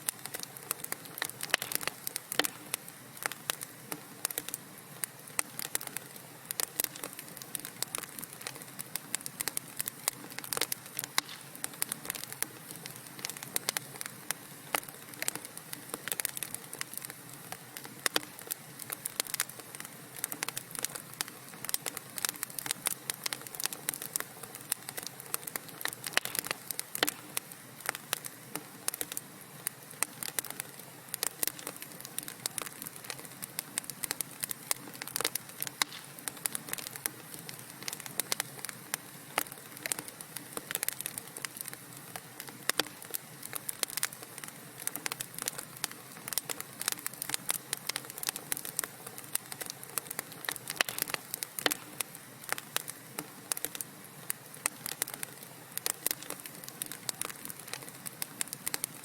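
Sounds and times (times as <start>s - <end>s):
soft hiss of flames: 0.0s - 59.0s
wood fire crackling and popping: 0.0s - 59.0s.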